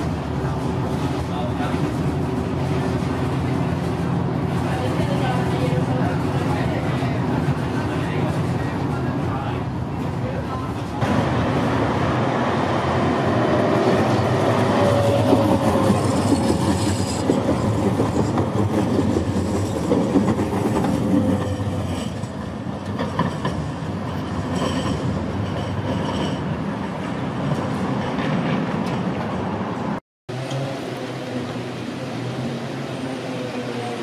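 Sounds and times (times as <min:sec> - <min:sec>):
distant tram rumble: 0:00.0 - 0:34.0.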